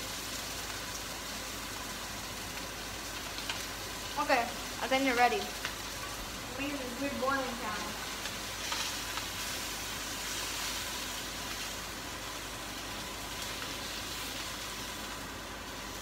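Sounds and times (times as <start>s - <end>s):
fish fillets sizzling in pan: 0.0s - 16.0s.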